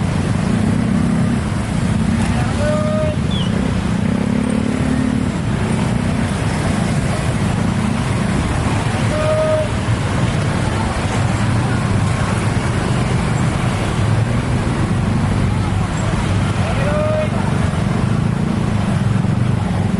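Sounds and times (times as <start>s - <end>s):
road traffic: 0.0s - 19.9s.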